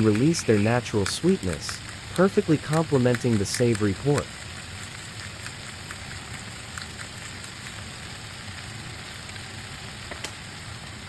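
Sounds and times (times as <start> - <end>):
small crackles and pops: 0.0 - 11.0.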